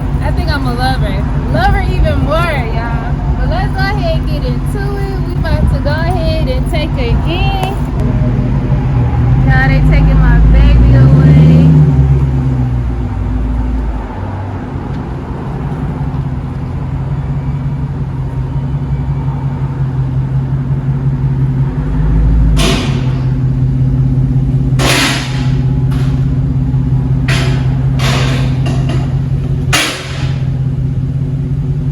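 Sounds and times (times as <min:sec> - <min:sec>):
car engine humming: 0:00.0 - 0:31.9.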